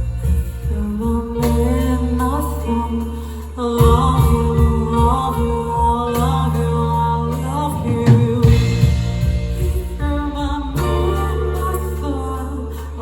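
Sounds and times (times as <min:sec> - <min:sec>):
bass guitar: 0:00.0 - 0:13.0
drums: 0:00.0 - 0:13.0
live rock band playing: 0:00.0 - 0:13.0
person singing: 0:00.0 - 0:13.0.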